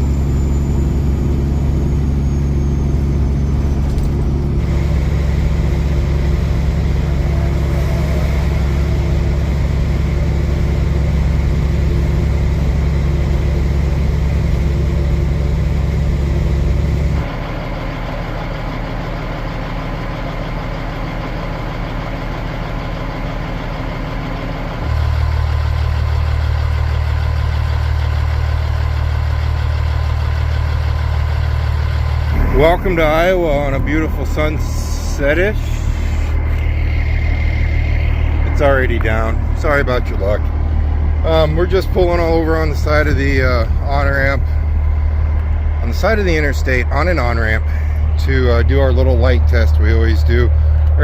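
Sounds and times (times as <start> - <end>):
truck diesel engine drone: 0.0 - 51.0.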